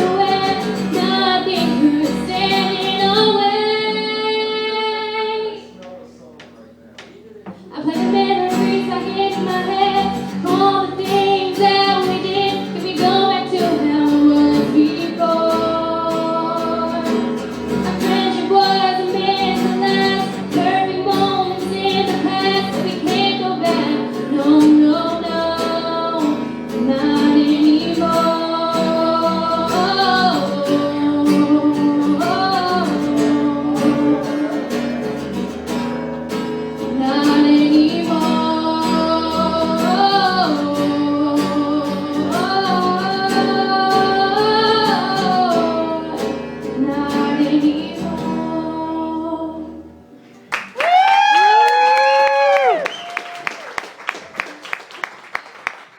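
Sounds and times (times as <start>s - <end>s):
woman singing: 0.0s - 5.8s, 7.7s - 34.9s, 36.8s - 50.0s
guitar accompaniment: 0.0s - 55.9s.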